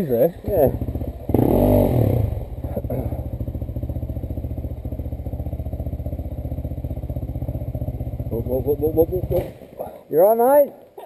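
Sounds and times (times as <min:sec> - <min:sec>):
dirt bike engine idling: 0:00.0 - 0:10.0.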